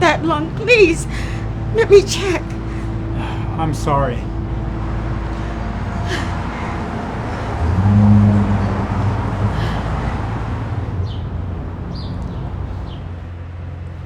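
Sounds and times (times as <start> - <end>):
road traffic hum: 0.0 - 14.0
vehicle engine droning: 0.0 - 14.0.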